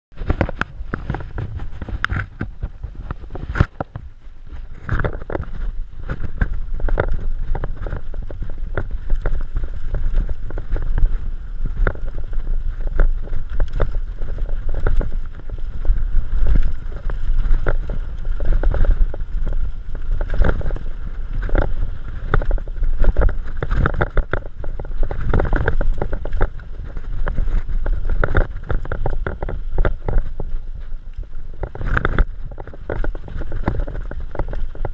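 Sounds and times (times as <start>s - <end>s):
bike knocking and rattling: 0.1s - 34.9s
low rumble: 0.1s - 34.9s
wind buffeting microphone: 0.1s - 34.9s.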